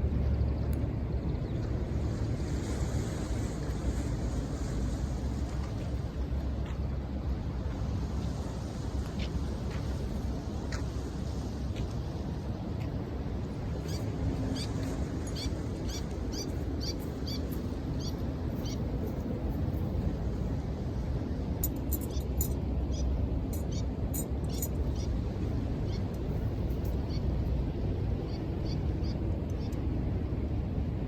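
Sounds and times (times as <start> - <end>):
sea waves on shore: 0.0 - 31.0.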